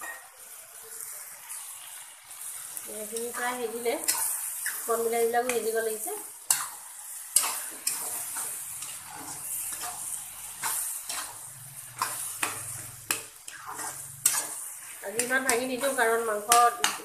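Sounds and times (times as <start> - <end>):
frying sizzle: 0.0 - 17.0
spatula scraping a wok: 1.6 - 17.0.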